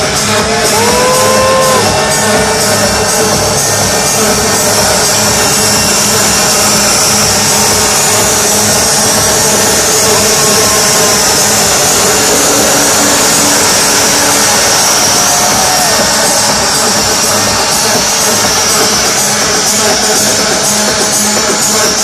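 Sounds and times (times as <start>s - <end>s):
club techno music: 0.0s - 22.0s.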